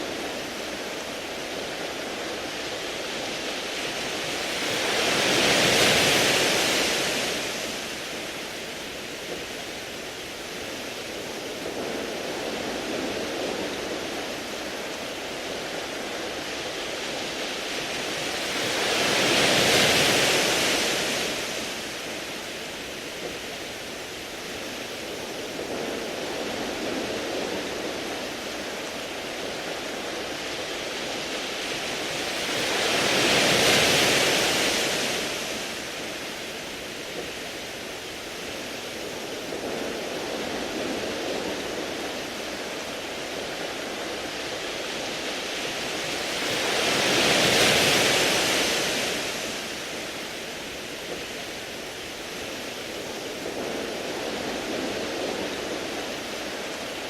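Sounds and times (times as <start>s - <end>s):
waves washing over pebbles: 0.0s - 57.0s.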